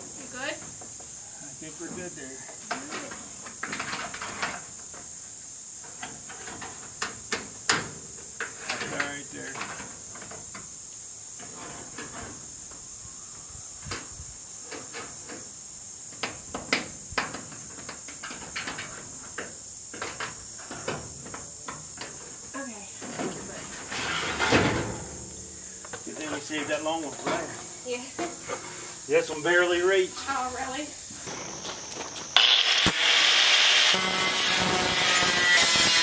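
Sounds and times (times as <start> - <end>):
insects calling: 0.0 - 36.0.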